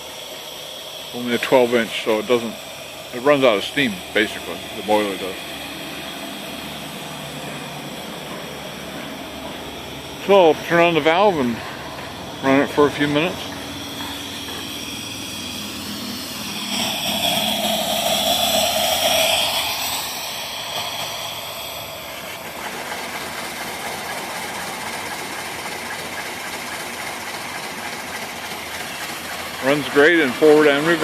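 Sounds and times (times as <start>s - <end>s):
steam engine running: 0.0s - 31.0s
steam hissing: 0.0s - 31.0s.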